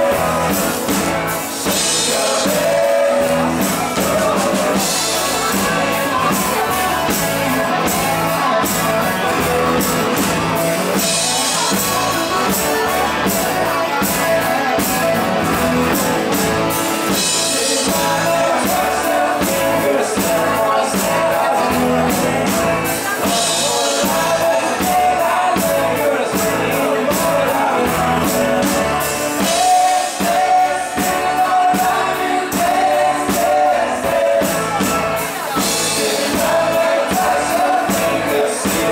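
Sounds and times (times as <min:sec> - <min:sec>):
acoustic and electric guitars: 0:00.0 - 0:38.9
bass guitar: 0:00.0 - 0:38.9
drum kit: 0:00.0 - 0:38.9
person singing: 0:00.0 - 0:38.9.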